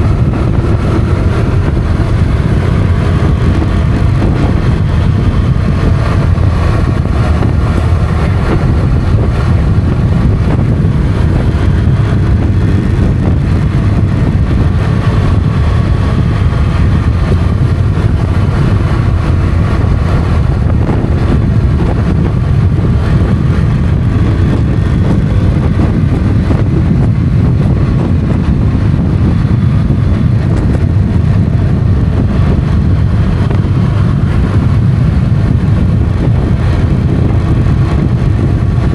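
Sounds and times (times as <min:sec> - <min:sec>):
motorcycle engine running: 0:00.0 - 0:38.9
road noise: 0:00.0 - 0:38.9
wind: 0:00.0 - 0:38.9.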